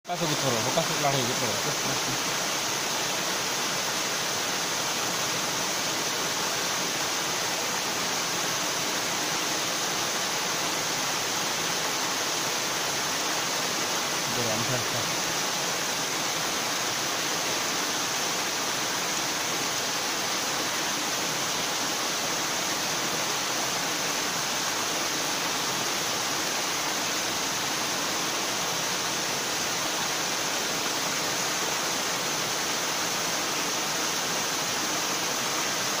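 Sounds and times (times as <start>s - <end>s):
waterfall pouring into a pool: 0.1s - 36.0s.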